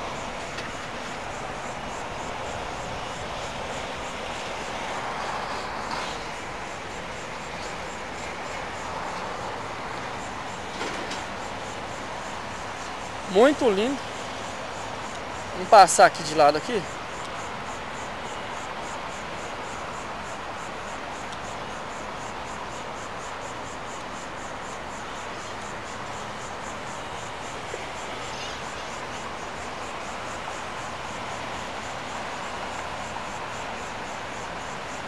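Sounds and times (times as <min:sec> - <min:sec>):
insect chirping: 0:00.0 - 0:35.0
steady background hiss: 0:00.0 - 0:35.0.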